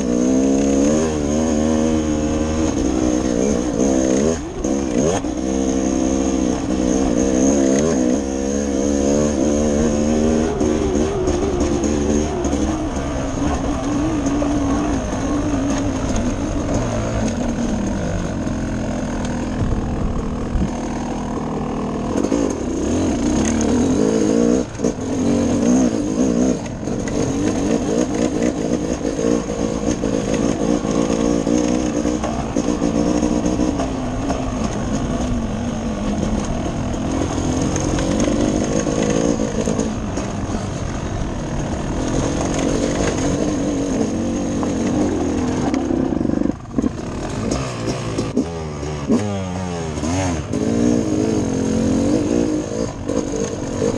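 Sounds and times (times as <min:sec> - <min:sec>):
dirt bike engine revving: 0:00.0 - 0:53.9
wind and ride noise: 0:00.0 - 0:53.9.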